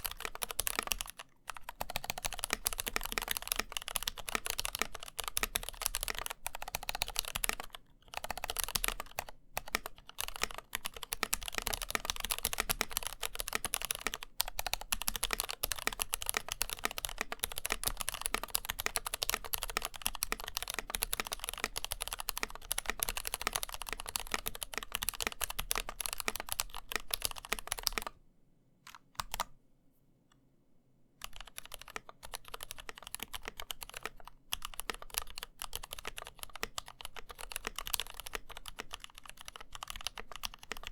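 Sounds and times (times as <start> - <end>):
typing on mechanical keyboard: 0.0 - 28.2, 28.9 - 29.5, 31.2 - 40.9.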